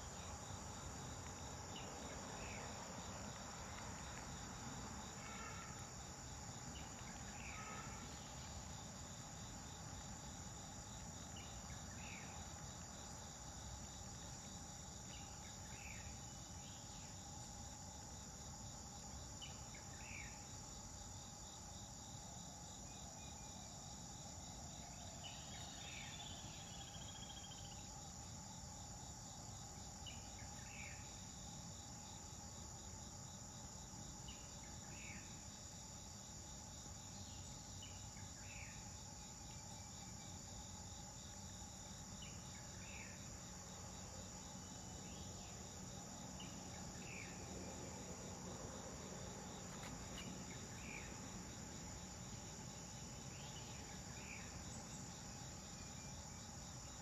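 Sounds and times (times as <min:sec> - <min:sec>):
insects buzzing: 0:00.0 - 0:57.0.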